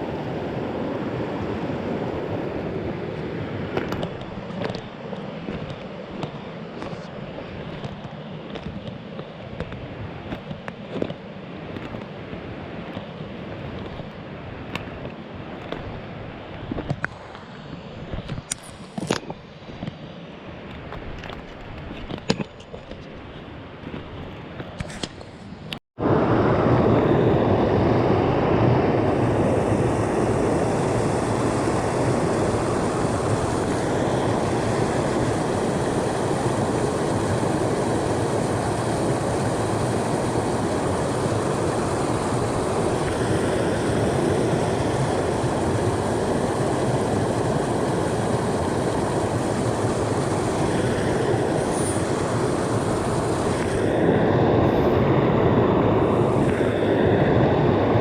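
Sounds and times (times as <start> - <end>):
creek water rushing: 0.0 - 19.0, 26.0 - 58.0.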